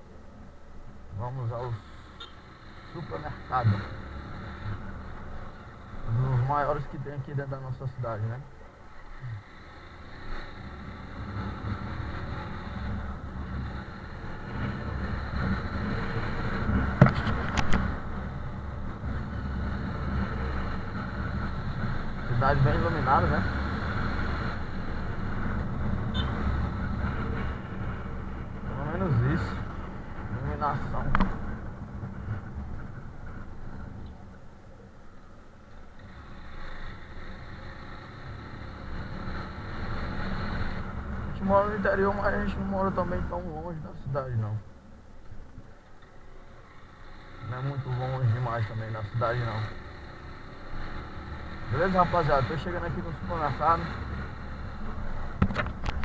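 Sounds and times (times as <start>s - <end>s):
motorcycle engine running: 8.5s - 43.5s, 45.9s - 56.0s.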